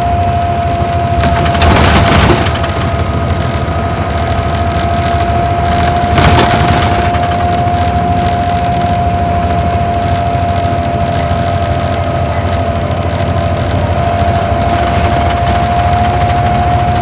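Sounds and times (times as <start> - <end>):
bus diesel engine rumbling: 0.0 - 17.0
high engine whine: 0.0 - 17.0.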